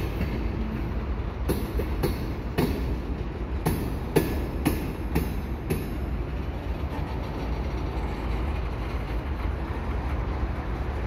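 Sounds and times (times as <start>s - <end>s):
train rumbling over a bridge: 0.0s - 11.0s.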